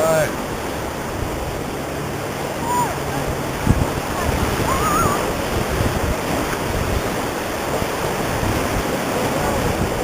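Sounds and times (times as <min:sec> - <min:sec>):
rushing river whitewater: 0:00.0 - 0:10.0.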